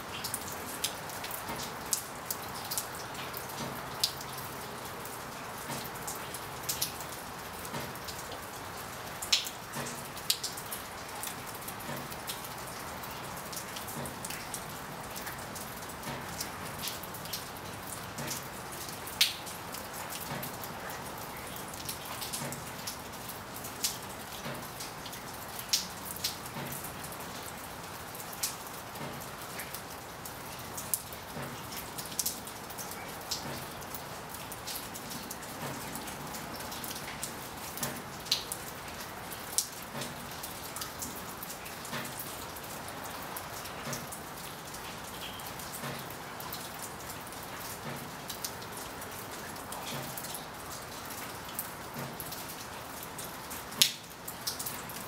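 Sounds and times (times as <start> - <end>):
raindrops tapping: 0.1 - 55.0.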